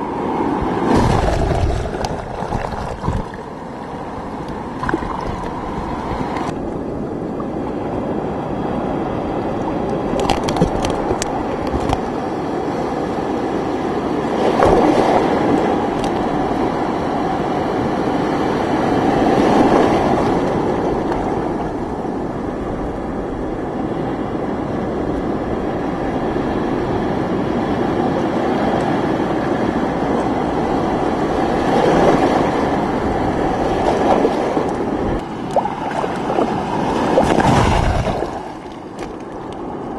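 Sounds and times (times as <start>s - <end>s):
surf breaking and churning: 0.0s - 39.9s.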